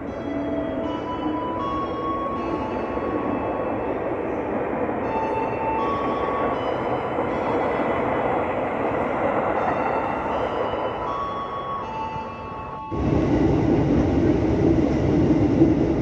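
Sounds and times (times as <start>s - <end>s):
electric train rumbling past: 0.0s - 16.0s.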